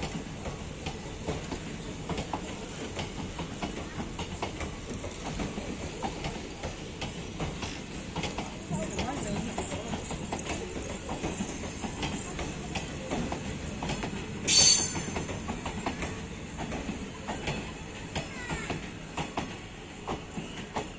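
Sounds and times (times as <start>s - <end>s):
train wheels clicking over rail joints: 0.0s - 20.9s.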